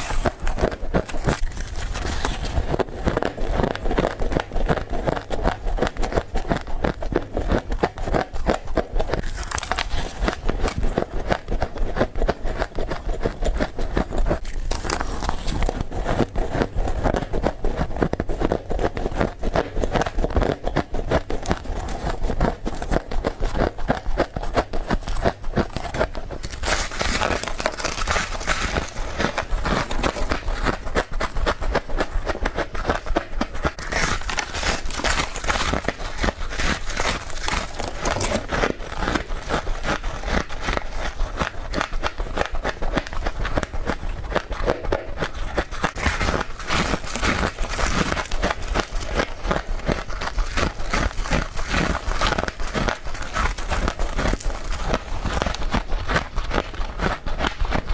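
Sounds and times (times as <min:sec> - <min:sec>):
frost being chewed crunching: 0:00.0 - 0:57.9.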